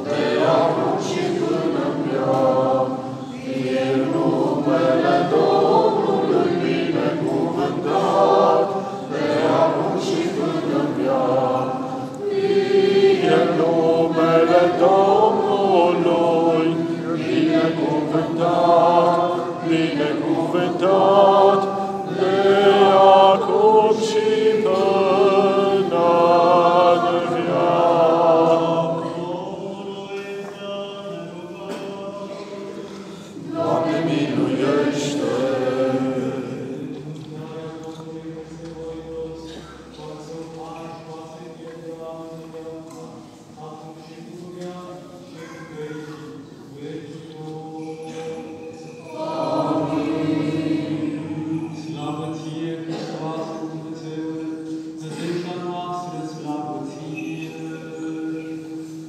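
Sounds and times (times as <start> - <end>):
choir chanting unaccompanied: 0.0 - 59.0.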